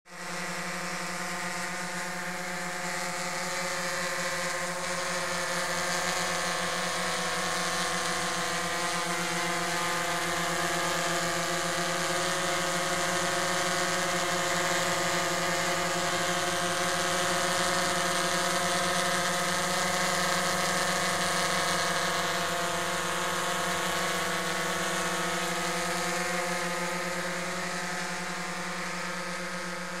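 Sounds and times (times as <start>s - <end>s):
drone propellers buzzing: 0.2s - 30.0s.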